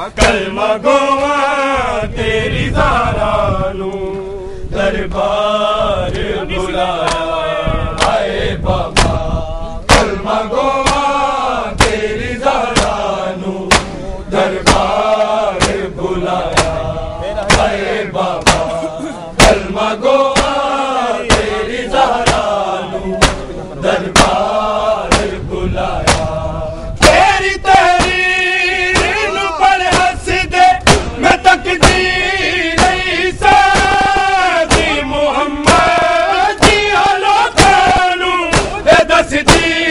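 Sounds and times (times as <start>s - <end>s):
men beating chests rhythmically: 0.0s - 1.9s, 4.8s - 39.9s
men chanting mournful melody: 0.0s - 39.9s.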